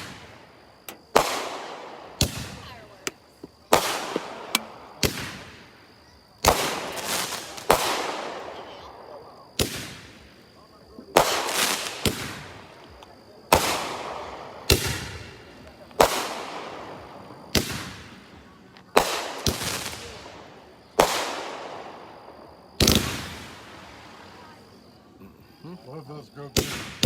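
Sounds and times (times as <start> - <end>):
firework bangs with hiss: 0.0 - 10.5, 11.1 - 24.9, 26.5 - 27.0.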